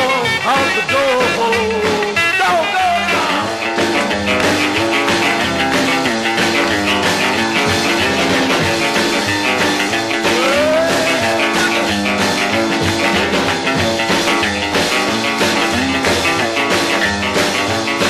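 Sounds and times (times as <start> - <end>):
rock and roll band playing: 0.0 - 18.0.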